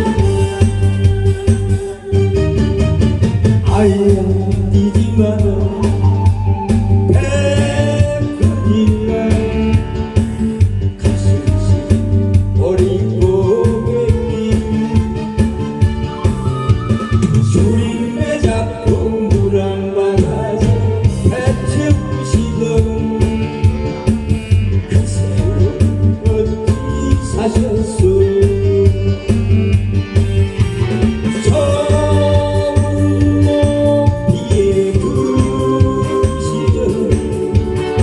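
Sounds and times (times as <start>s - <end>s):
trot song with steady beat: 0.0s - 38.0s.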